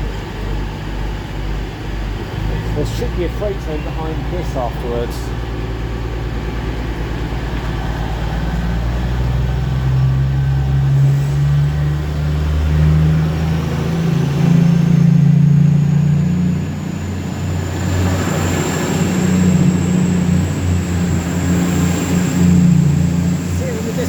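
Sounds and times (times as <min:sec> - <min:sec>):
faint rising whine: 0:00.0 - 0:24.0
train diesel engines throttling up: 0:00.0 - 0:24.0.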